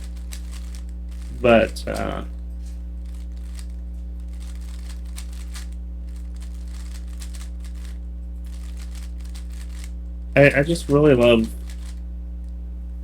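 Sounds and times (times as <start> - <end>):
puzzle cube clicking and rattling: 0.0 - 2.2, 3.0 - 9.9, 10.5 - 12.0
low electrical hum: 0.0 - 13.0.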